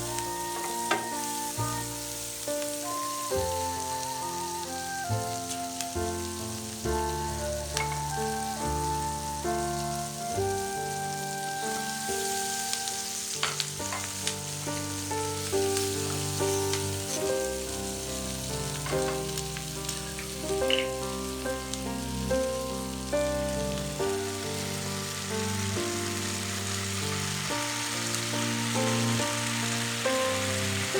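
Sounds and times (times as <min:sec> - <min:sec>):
background music: 0:00.0 - 0:30.9
food sizzling in a frying pan: 0:00.0 - 0:30.9.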